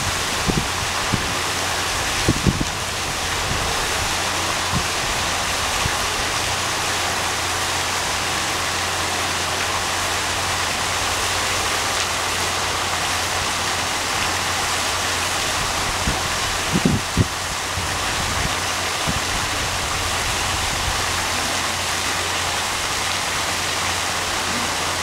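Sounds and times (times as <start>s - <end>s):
waterfall pouring into pool: 0.0s - 25.0s.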